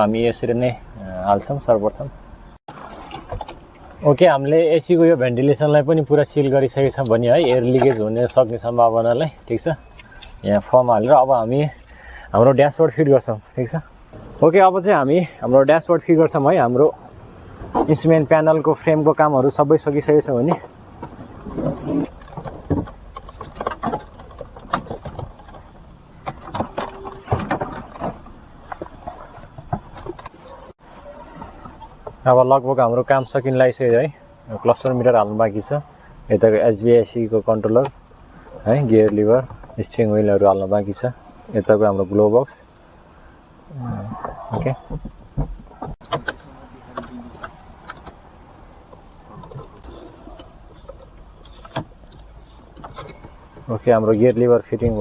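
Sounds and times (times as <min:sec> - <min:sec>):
faint background noise: 0:00.0 - 0:55.0.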